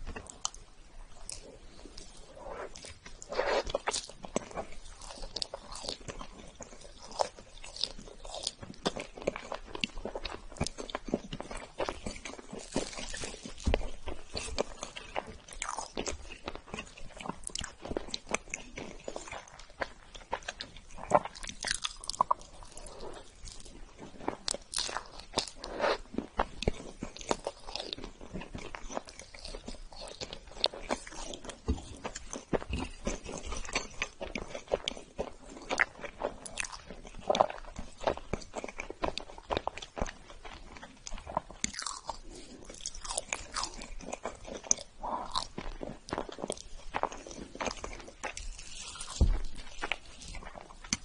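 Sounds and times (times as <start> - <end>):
chewing and biting cake: 0.0 - 51.0.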